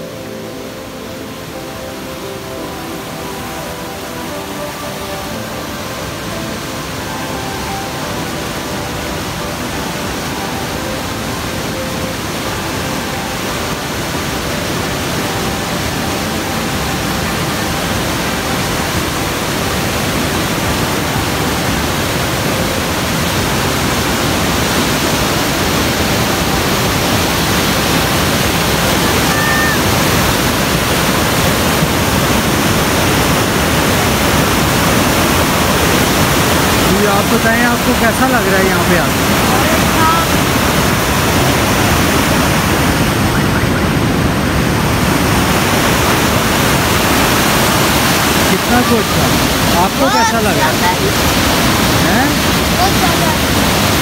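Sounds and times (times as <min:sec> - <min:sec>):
faint music: 0:00.0 - 0:54.0
river rushing over rapids: 0:00.0 - 0:54.0.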